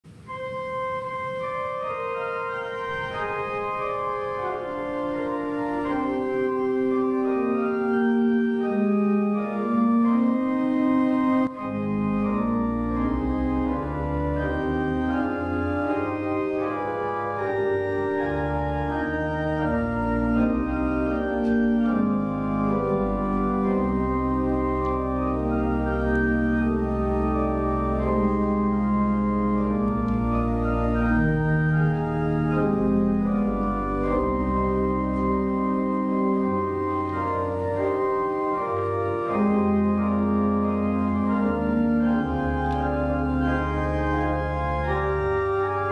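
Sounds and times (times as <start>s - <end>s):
organ playing sustained chords: 0.1s - 45.9s.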